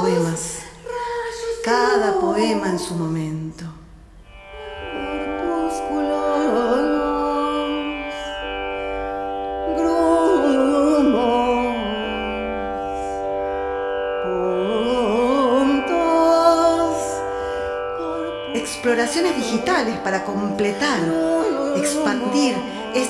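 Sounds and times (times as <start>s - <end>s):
ornamented gliding singing: 0.0s - 3.6s, 4.3s - 23.0s
drone of held tones: 4.3s - 23.0s.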